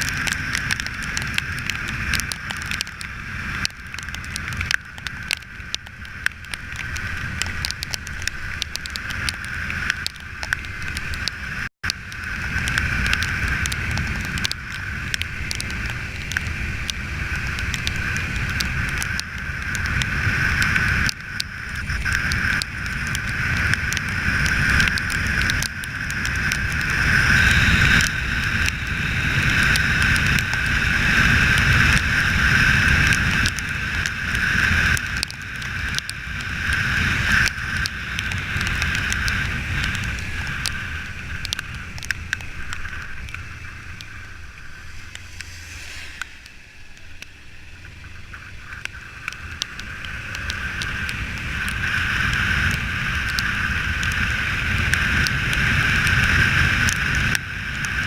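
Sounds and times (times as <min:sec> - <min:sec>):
motorcycle engine: 0:00.0 - 0:57.4
wind rushing over microphone: 0:00.0 - 0:58.0.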